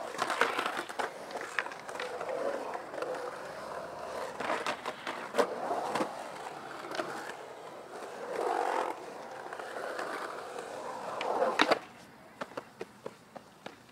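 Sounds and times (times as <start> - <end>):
skateboard clacking on concrete: 0.0 - 13.9
skateboard wheels rolling on concrete: 0.0 - 13.9.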